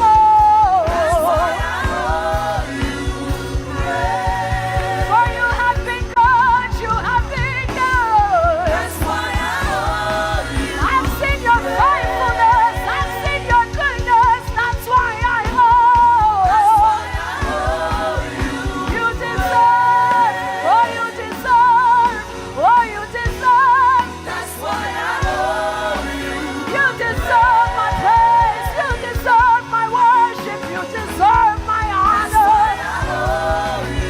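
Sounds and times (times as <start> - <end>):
backing singers: 0.0 - 34.0
band with steady beat: 0.0 - 34.0
lead singer with vibrato: 0.0 - 34.0.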